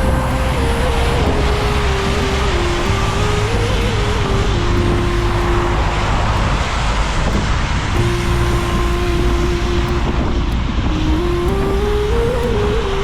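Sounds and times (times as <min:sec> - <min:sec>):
motor hum climbing in pitch: 0:00.0 - 0:13.0
road traffic and tyre noise: 0:00.0 - 0:13.0.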